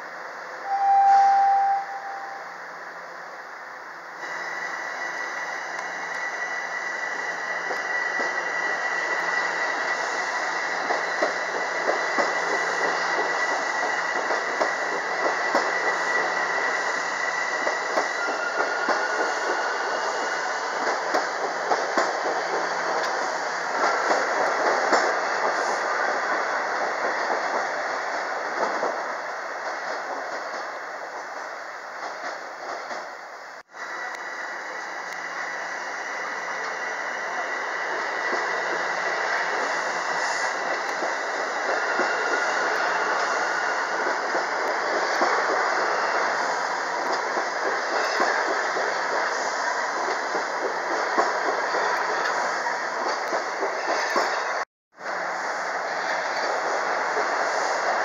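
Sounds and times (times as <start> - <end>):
train high-pitched whine: 0.0 - 27.4, 32.6 - 58.0.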